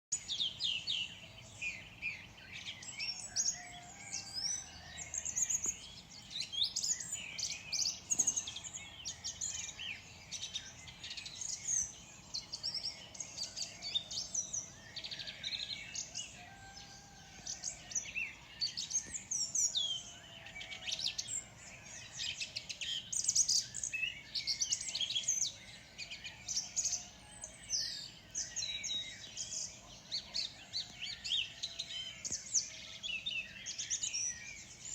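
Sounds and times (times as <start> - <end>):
songbirds chirping and trilling: 0.1 - 34.9.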